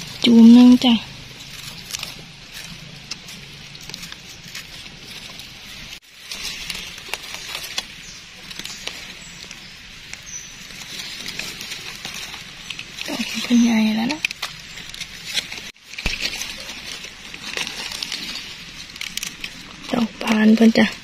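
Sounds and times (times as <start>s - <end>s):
leaf litter rustling and crackling: 0.0s - 21.0s.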